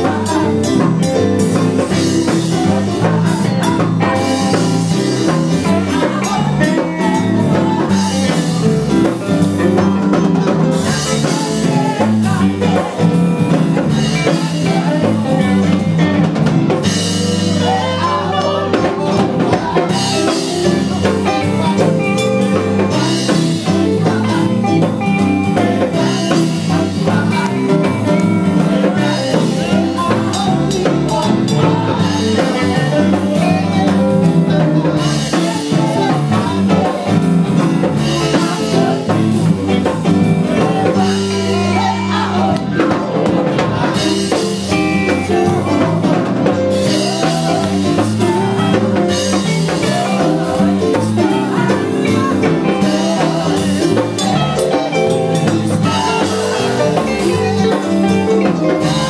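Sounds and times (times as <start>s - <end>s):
people singing on microphones: 0.0s - 59.0s
worship band playing: 0.0s - 59.0s.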